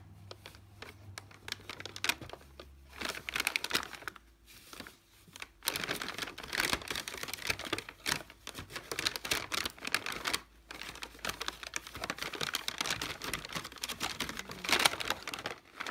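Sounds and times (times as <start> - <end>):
paper bag crinkling: 0.1 - 15.9.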